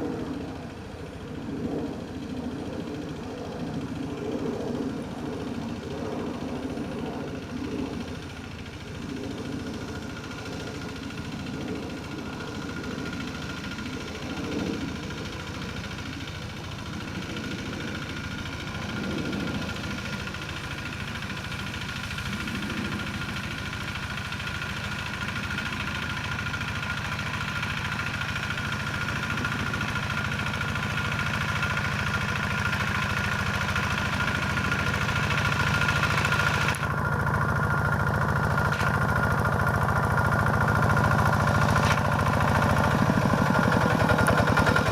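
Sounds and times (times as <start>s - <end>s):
hand tractor diesel engine running: 0.0s - 44.9s.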